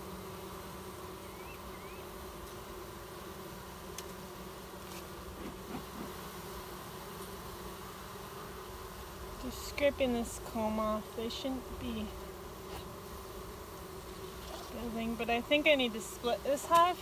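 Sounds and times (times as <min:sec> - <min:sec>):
honey bees humming: 0:00.0 - 0:17.0.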